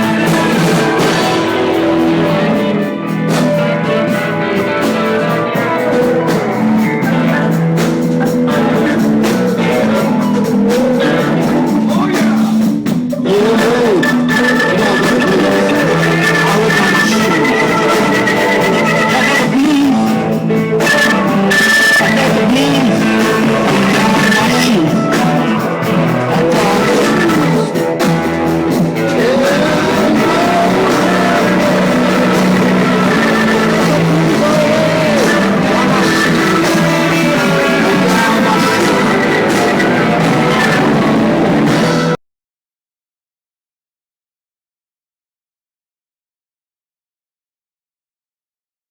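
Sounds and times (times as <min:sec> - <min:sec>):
electric guitar bending notes: 0:00.0 - 0:42.2
live blues rock band: 0:00.0 - 0:42.2.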